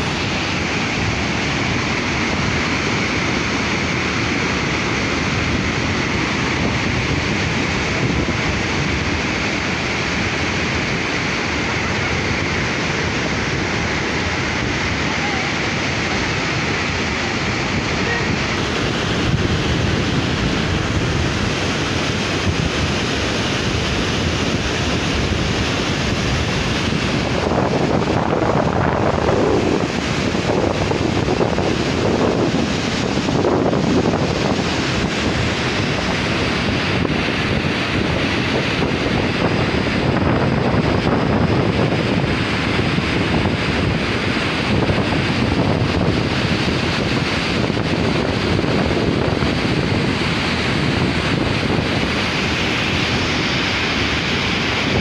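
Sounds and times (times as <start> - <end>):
rushing water and spray: 0.0 - 55.0
wind buffeting microphone: 0.0 - 55.0.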